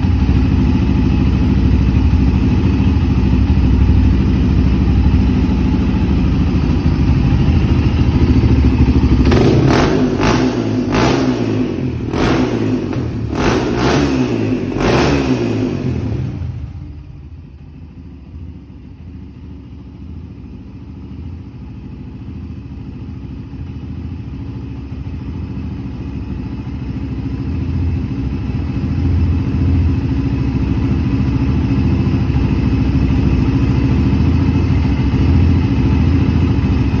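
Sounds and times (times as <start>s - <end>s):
four-stroke engine idling: 0.0s - 37.0s.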